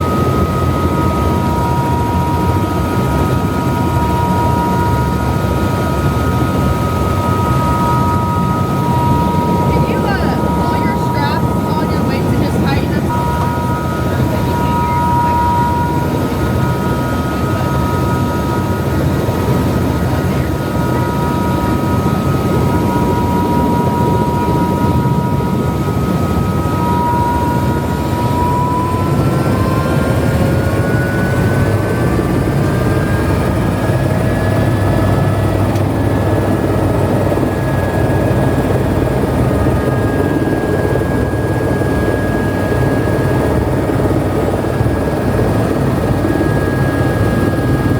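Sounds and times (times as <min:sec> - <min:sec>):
helicopter rotor and engine: 0:00.0 - 0:47.9
turbine whine: 0:00.0 - 0:47.9.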